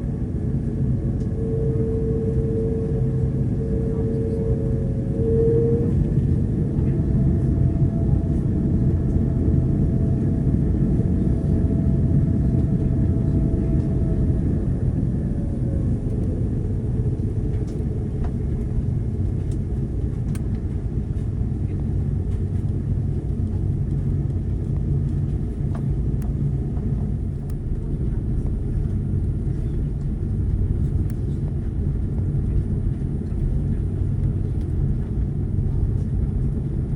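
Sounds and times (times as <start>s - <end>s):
jet engine cabin rumble: 0.0s - 36.9s.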